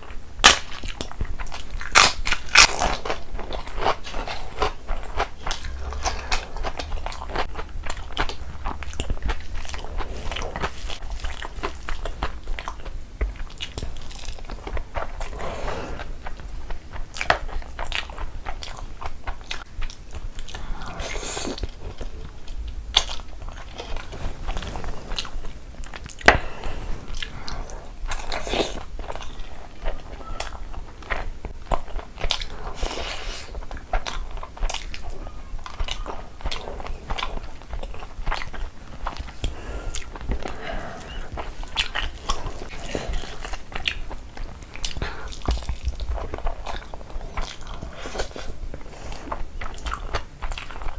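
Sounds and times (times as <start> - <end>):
person chewing and biting food: 0.0 - 50.9.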